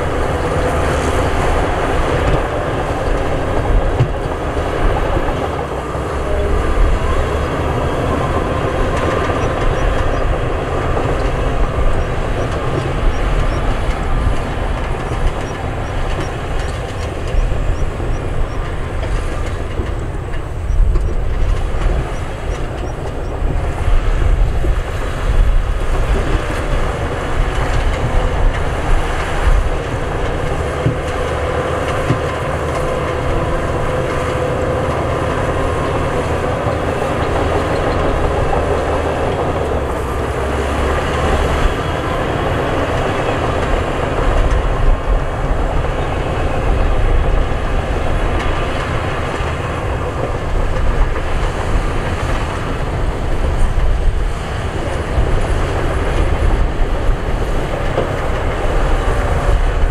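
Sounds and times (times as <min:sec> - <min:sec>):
heavy diesel machinery rumble: 0:00.0 - 0:59.9.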